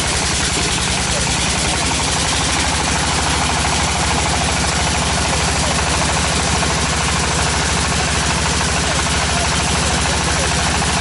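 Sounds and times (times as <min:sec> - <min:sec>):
tractor engine throbbing: 0:00.0 - 0:11.0.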